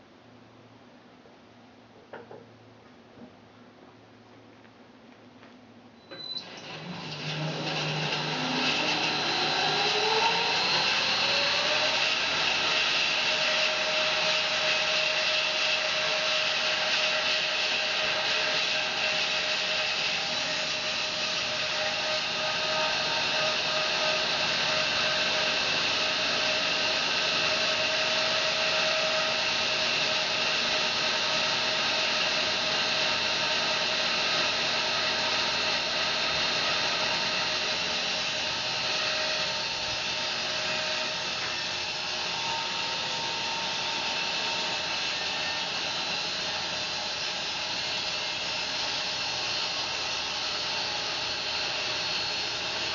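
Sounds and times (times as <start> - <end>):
bandsaw cutting log: 6.6 - 52.9.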